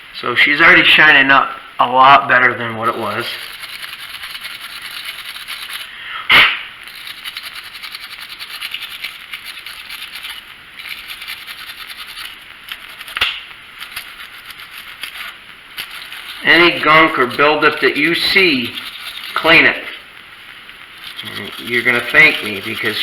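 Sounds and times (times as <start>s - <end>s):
wire brush scratching metal: 2.7s - 6.0s, 6.8s - 23.0s.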